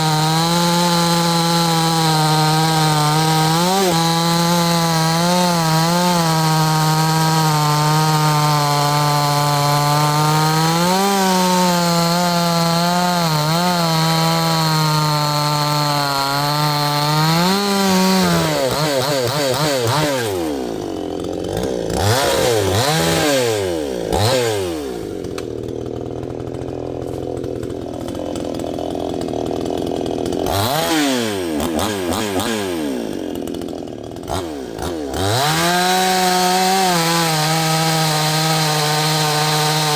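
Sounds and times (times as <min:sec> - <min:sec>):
chainsaw cutting and revving: 0:00.0 - 0:39.9.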